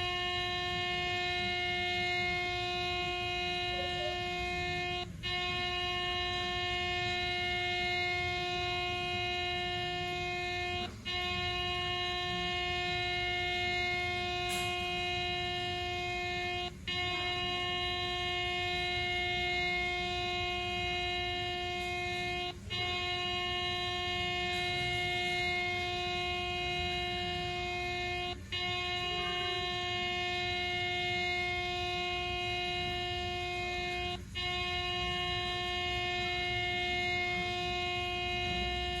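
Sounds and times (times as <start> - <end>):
air horn steady note: 0.0 - 39.0.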